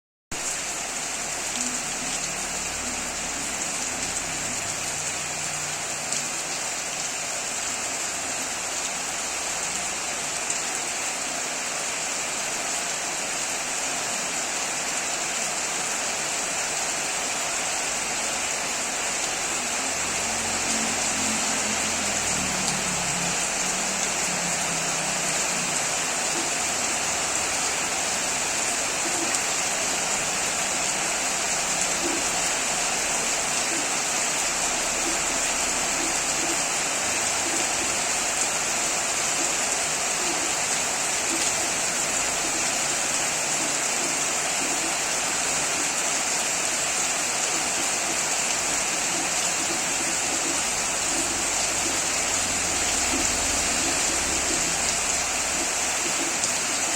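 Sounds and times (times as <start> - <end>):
steady rain hissing: 0.3 - 56.9.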